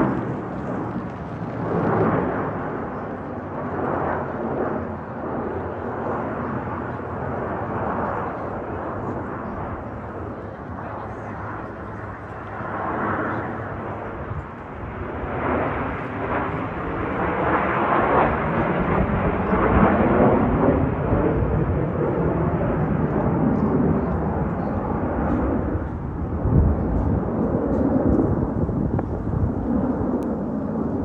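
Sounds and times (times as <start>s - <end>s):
jet aircraft flying past: 0.0s - 31.0s.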